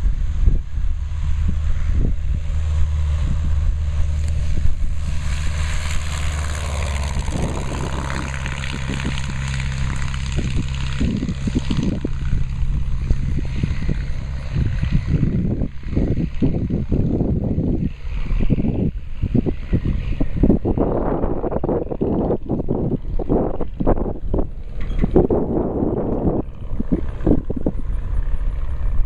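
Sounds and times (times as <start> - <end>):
propeller plane taking off: 0.0 - 29.0
wind rumble on microphone: 0.0 - 29.0.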